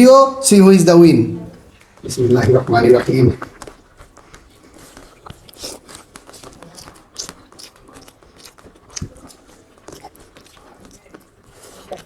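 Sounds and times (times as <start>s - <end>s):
chewing and mouth sounds: 1.6s - 12.0s.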